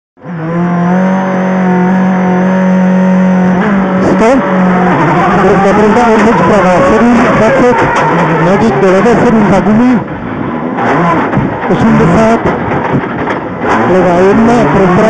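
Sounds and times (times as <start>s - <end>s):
rally car engine accelerating: 0.2s - 15.0s.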